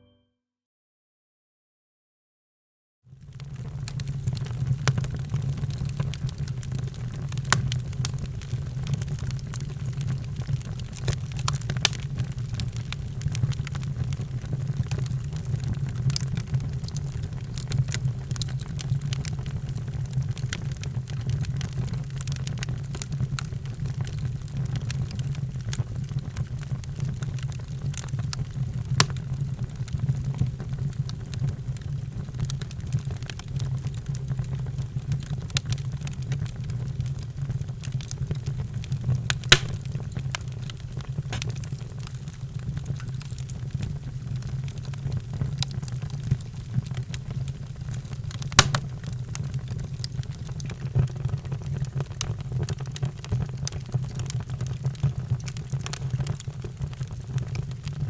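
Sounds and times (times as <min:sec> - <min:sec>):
fire crackling and popping: 0:03.2 - 0:58.0
low rumble of flames: 0:03.2 - 0:58.0.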